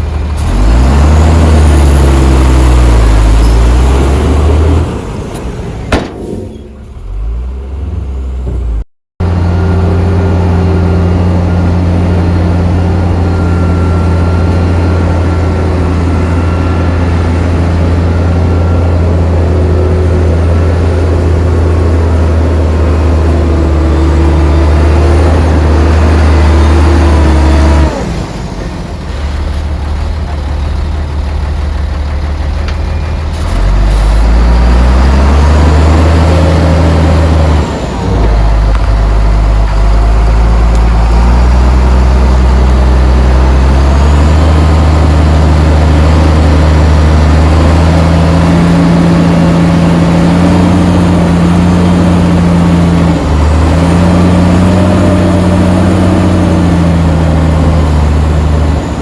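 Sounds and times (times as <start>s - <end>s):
heavy diesel engine changing revs: 0.0s - 59.0s.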